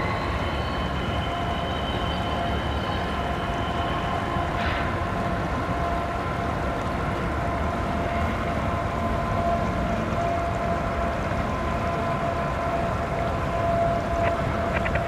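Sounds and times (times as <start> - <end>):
distant freight train rumble: 0.0 - 15.0
long high-pitched tones: 0.0 - 15.0.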